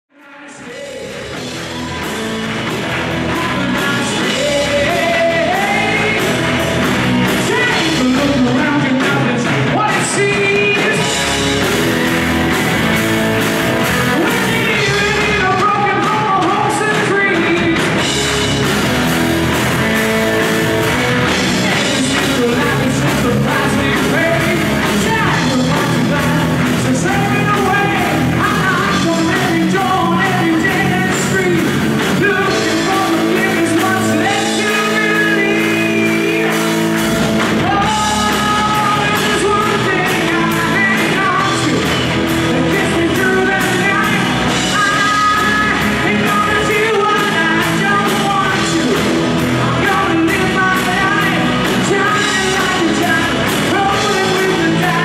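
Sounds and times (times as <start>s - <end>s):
drums: 0.1s - 55.0s
keyboard: 0.1s - 55.0s
electric guitars: 0.3s - 55.0s
bass guitar: 0.5s - 55.0s.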